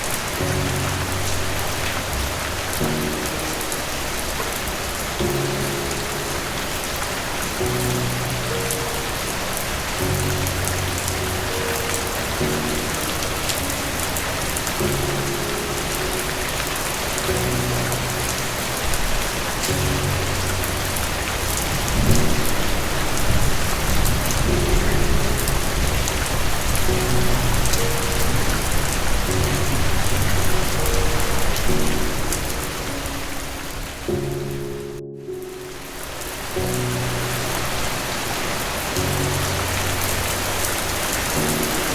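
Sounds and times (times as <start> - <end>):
thunder rumble: 0.0 - 34.4
soft music with held chords: 0.0 - 41.9
steady rain: 0.0 - 41.9.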